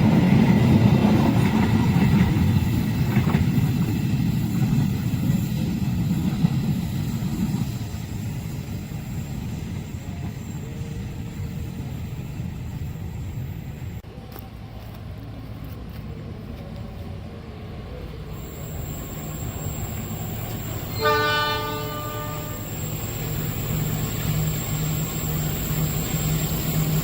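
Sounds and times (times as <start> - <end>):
train passing on rails: 0.0 - 27.0.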